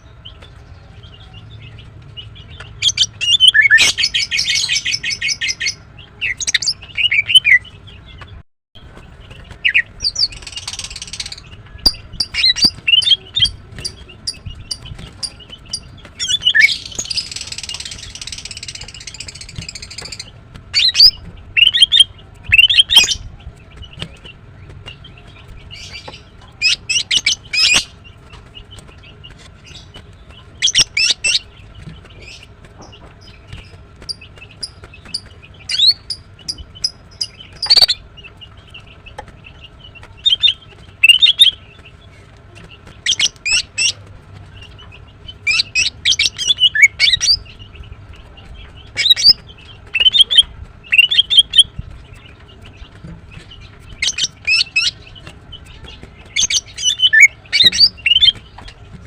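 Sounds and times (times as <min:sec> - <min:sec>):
bird high chirps: 0:00.0 - 0:58.9.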